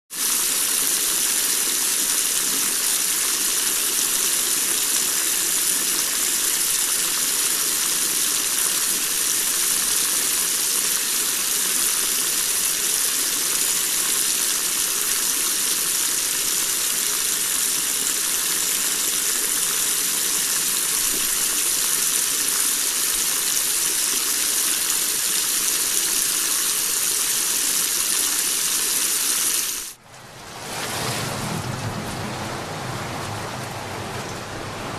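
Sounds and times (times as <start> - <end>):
heavy rain: 0.1 - 34.9
rushing floodwater: 0.4 - 34.9.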